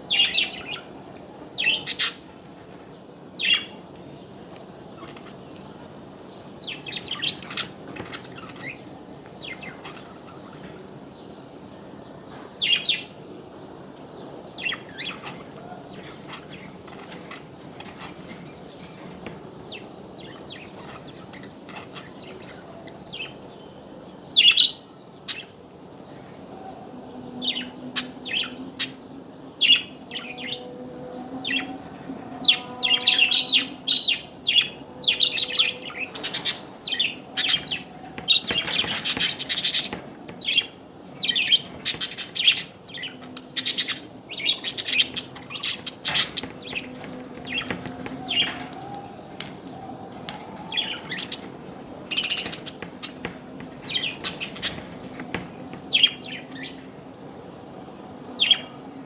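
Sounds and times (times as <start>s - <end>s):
small birds chirping: 0.0s - 30.7s, 31.4s - 58.8s.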